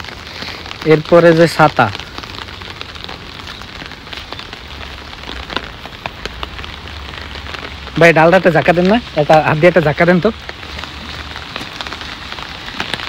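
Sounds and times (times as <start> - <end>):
raindrop ticks: 0.0 - 13.0
steady rain: 0.0 - 13.0.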